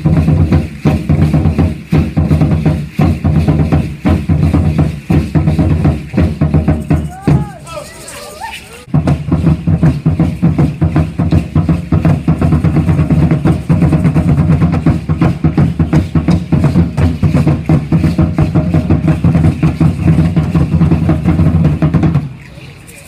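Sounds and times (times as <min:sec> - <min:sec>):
fast loud drumming: 0:00.0 - 0:08.0, 0:08.8 - 0:22.4.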